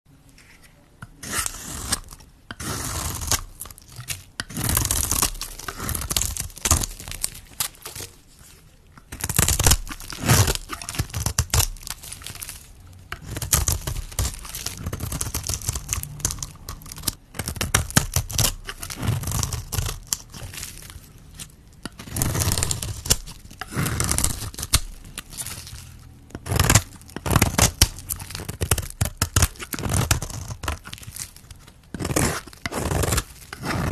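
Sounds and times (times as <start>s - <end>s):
blade cutting soap crackle: 1.0s - 33.9s.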